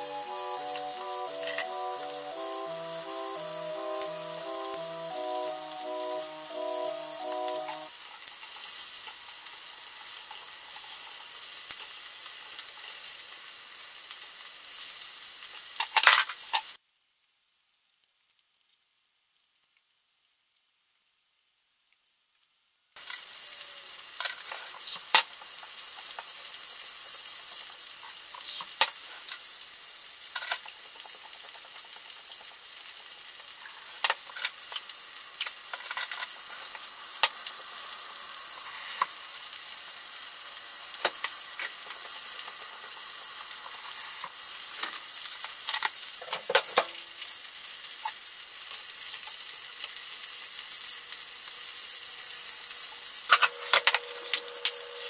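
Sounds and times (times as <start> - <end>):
chicken sizzling in oil: 0.0 - 16.8, 23.0 - 55.0.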